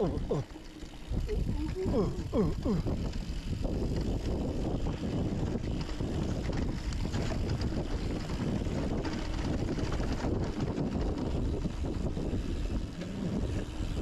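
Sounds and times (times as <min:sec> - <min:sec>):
bike rattling over rocks: 0:00.0 - 0:14.0
wind rush on microphone: 0:00.0 - 0:14.0.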